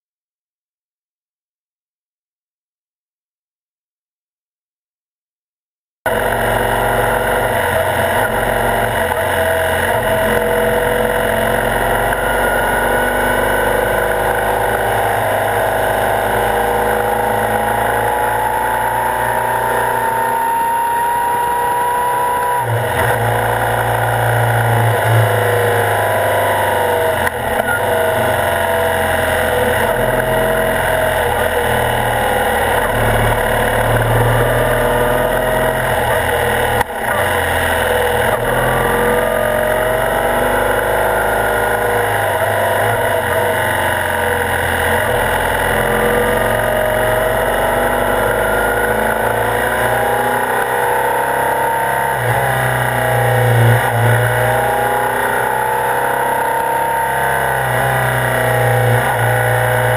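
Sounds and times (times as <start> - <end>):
motorcycle engine running: 6.1 - 54.8.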